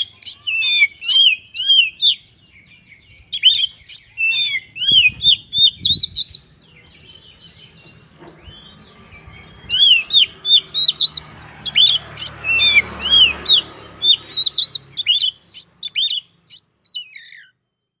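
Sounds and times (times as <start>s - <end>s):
bird singing whistled notes: 0.0s - 18.0s.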